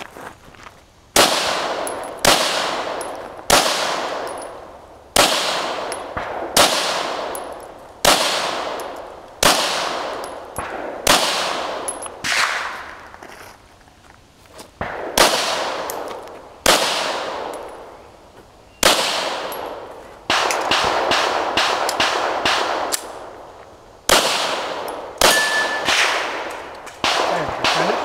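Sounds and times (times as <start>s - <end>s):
pistol shots: 1.2s - 4.6s, 5.2s - 12.9s, 14.8s - 17.9s, 18.8s - 23.4s, 24.1s - 28.0s.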